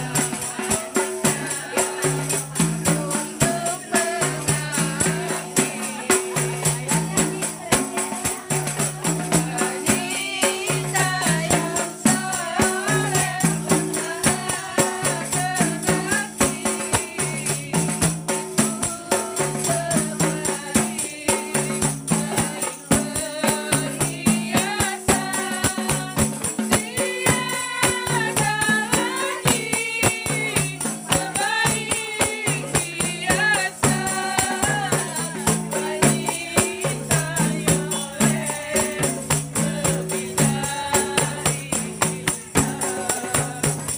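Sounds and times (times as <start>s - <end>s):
frame drums: 0.0s - 43.9s
jingling tambourine: 0.0s - 43.9s
women singing: 0.0s - 43.9s.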